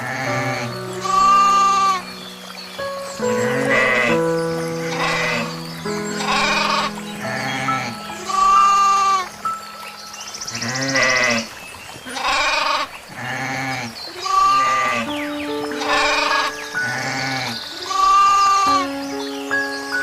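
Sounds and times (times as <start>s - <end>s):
soft background music: 0.0s - 11.5s, 14.6s - 20.0s.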